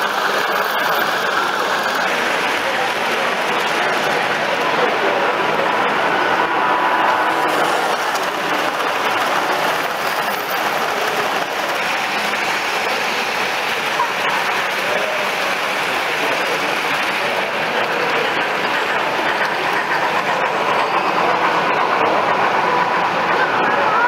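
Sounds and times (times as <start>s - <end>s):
model train wheels rolling on track: 0.0s - 24.0s.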